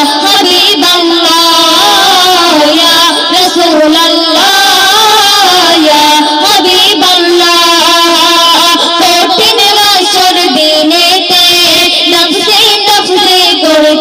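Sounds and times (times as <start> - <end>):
women singing into microphones: 0.0 - 14.0.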